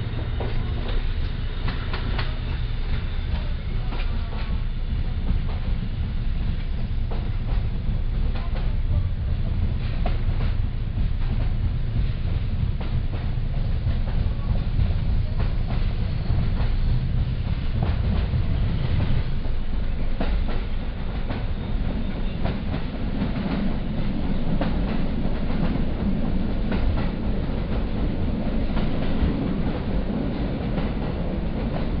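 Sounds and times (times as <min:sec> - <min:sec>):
train coach rolling rumble: 0:00.0 - 0:32.0.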